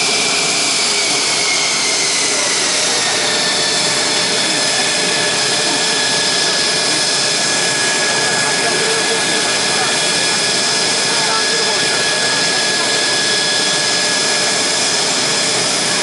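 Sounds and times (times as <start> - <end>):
jet engine roar with whine: 0.0 - 16.0.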